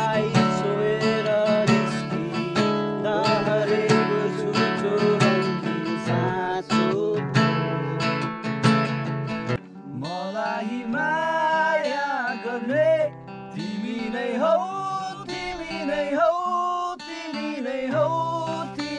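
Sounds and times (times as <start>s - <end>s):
person singing: 0.0s - 8.4s, 9.7s - 18.9s
acoustic guitar strumming: 0.0s - 18.9s.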